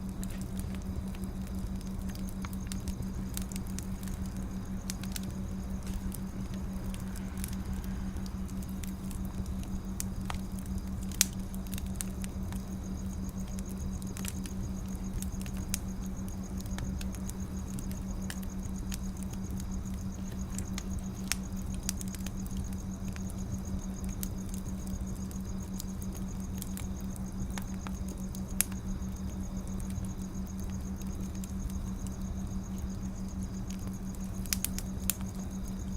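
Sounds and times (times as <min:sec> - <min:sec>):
steady low hum: 0:00.0 - 0:35.9
wood fire crackling: 0:00.0 - 0:35.9.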